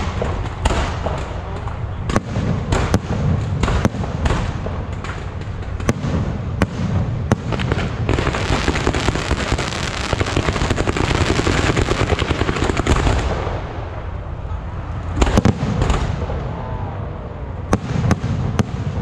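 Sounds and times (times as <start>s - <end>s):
fireworks crackling: 0.0s - 16.5s
fireworks bangs: 0.0s - 19.0s.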